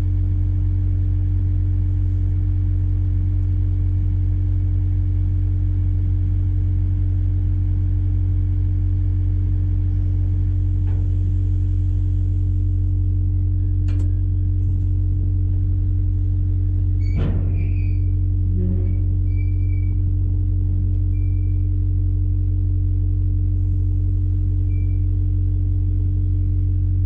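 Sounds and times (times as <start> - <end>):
diesel engine drone: 0.0 - 27.0
steady hum: 0.0 - 27.0.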